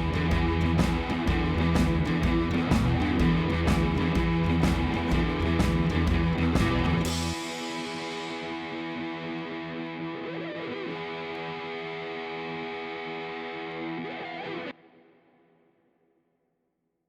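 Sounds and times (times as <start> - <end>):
distorted electric guitar chords: 0.0 - 14.7.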